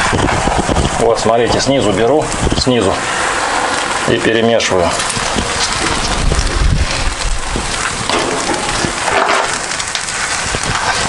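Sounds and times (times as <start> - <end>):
rice sizzling in a pot: 0.0 - 11.0.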